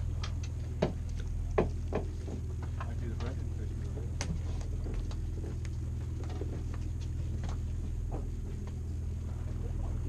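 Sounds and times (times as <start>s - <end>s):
boat engine humming: 0.0s - 10.0s
light clicks and knocks: 0.2s - 8.8s.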